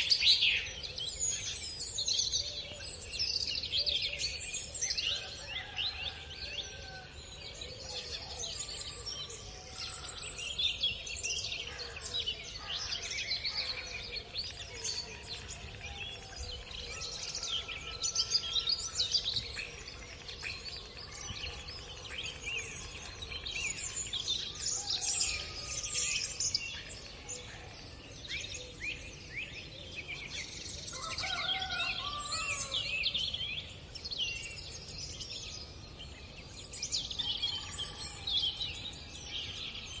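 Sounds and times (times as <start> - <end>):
small birds chirping and singing: 0.0 - 40.0.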